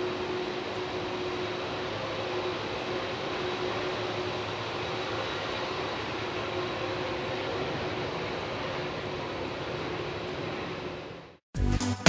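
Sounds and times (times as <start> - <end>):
jet engines running: 0.0 - 11.4.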